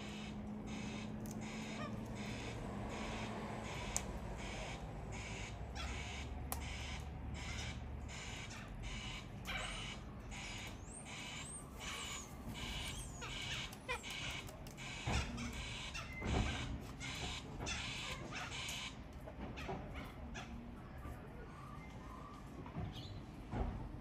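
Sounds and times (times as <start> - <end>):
cockatoo harsh rasping calls: 0.0 - 22.4.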